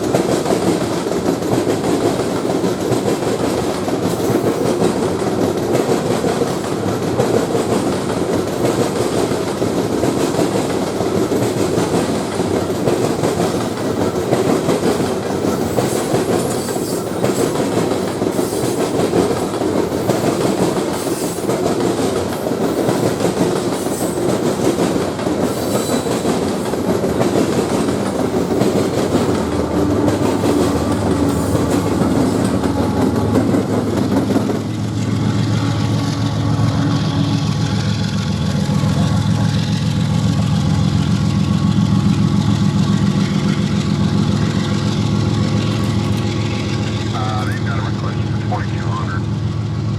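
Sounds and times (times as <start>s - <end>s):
wheels clicking over rail joints: 0.0s - 36.2s, 37.4s - 47.1s
railroad cars rumbling on rails: 0.0s - 49.9s.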